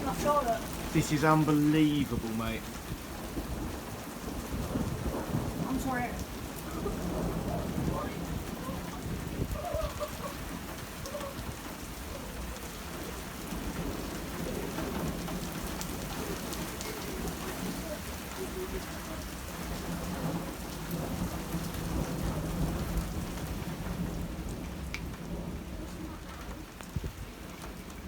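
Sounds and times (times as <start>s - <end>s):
heavy rain pouring: 0.0s - 28.0s
low rumble of thunder: 2.6s - 28.0s.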